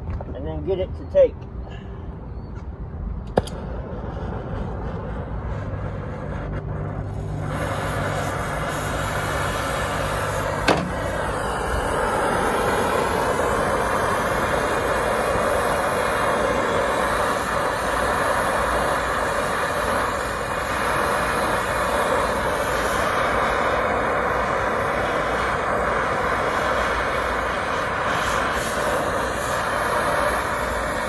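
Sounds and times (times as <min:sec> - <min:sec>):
torch flame hissing: 0:03.4 - 0:31.0.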